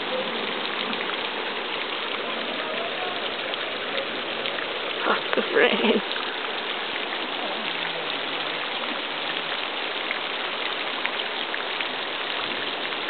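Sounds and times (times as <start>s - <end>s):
heavy rain falling: 0.0s - 13.0s
raindrops ticking: 0.0s - 13.0s.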